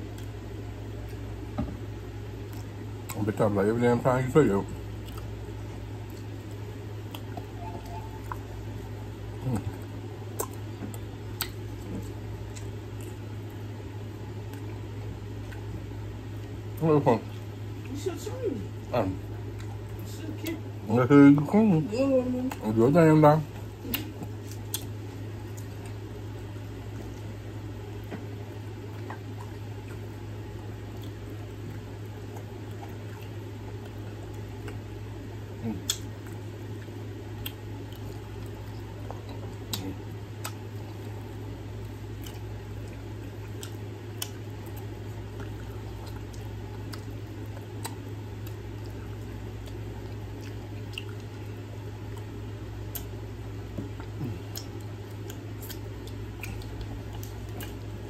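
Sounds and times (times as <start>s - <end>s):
chewing and wet mouth sounds: 0.0s - 3.5s, 4.3s - 58.0s
steady low hum: 0.0s - 58.0s.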